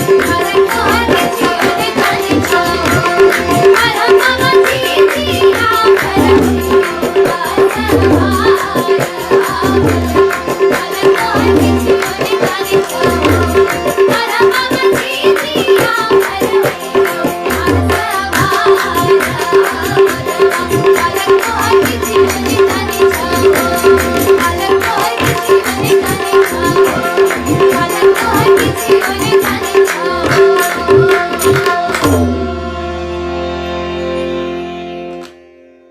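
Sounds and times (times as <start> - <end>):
tabla: 0.0 - 35.6.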